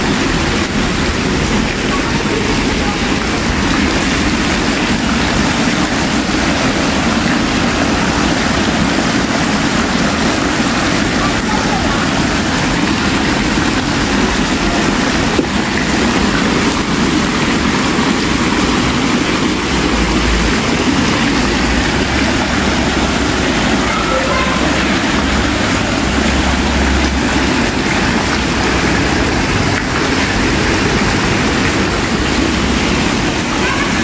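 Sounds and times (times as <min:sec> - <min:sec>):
loud steady rushing noise: 0:00.0 - 0:34.0.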